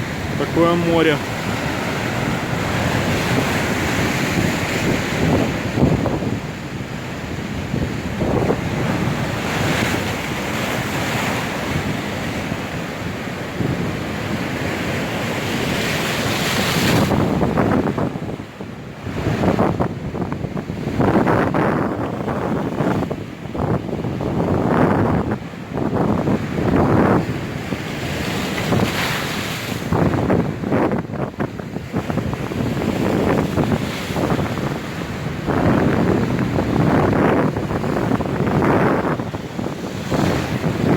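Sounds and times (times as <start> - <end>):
waves breaking on shore: 0.0 - 40.9
wind buffeting microphone: 0.0 - 40.9.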